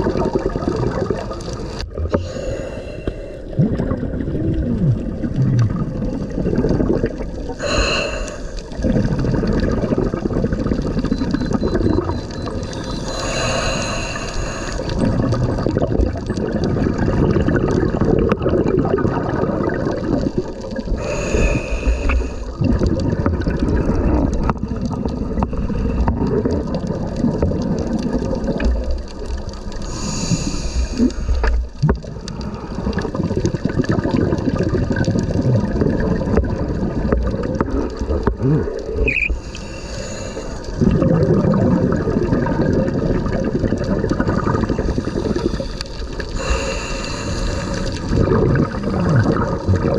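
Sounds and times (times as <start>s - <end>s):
bubbly hissing bursts: 0.0s - 29.0s, 29.7s - 49.9s
churning water underwater: 0.0s - 49.9s.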